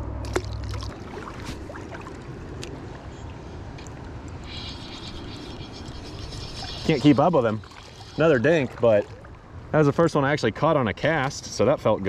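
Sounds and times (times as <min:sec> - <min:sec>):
river water flowing and lapping: 0:00.0 - 0:12.0.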